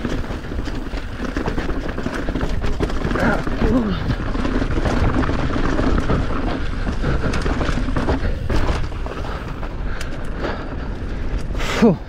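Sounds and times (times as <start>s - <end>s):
motorbike rattles and knocks: 0.0s - 9.8s.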